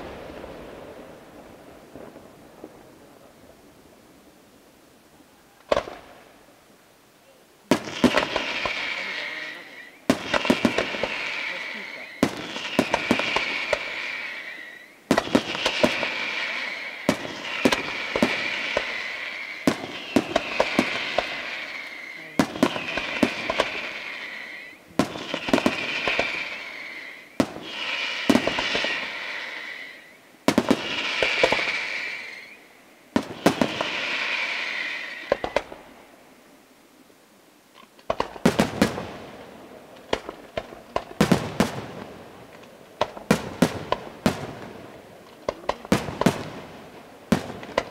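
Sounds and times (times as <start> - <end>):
crackling hiss of fireworks: 0.0 - 47.9
firework shells bursting: 5.6 - 6.3, 7.7 - 35.9, 37.8 - 47.9.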